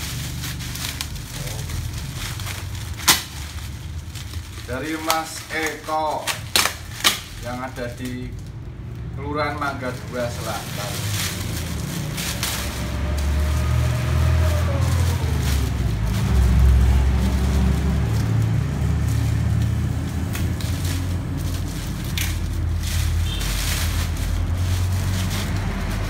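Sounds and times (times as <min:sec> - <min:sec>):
plastic bag rustling: 0:00.0 - 0:26.0.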